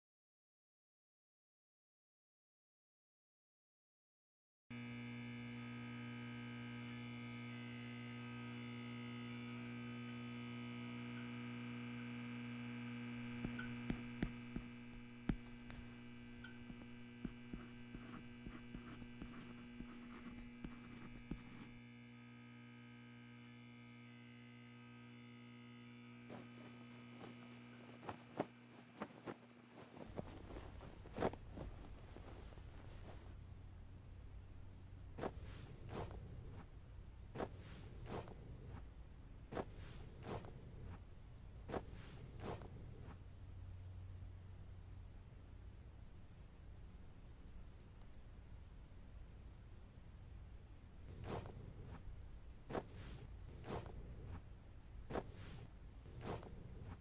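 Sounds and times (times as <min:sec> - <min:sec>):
electrical hum: 0:04.7 - 0:45.5, 0:47.0 - 0:57.0.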